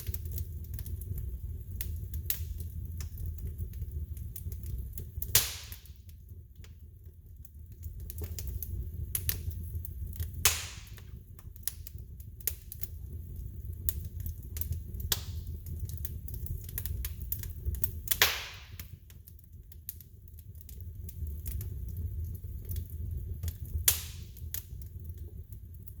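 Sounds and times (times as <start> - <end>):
fire crackling: 0.0 - 26.0
fire flames rumbling: 0.0 - 26.0
loud fire pops: 0.0 - 26.0.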